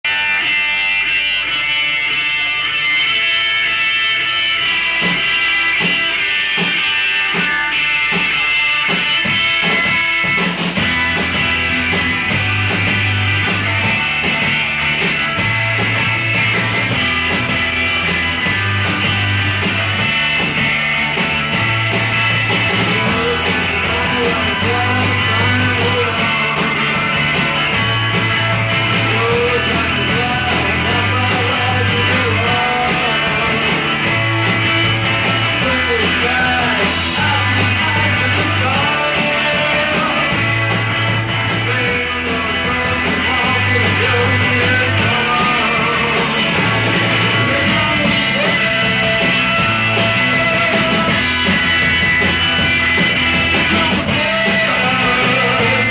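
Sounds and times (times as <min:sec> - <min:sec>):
drums: 0:00.0 - 0:55.9
electric guitars: 0:00.0 - 0:55.9
wavering guitar lead lines: 0:00.0 - 0:55.9
bass line: 0:07.4 - 0:55.9.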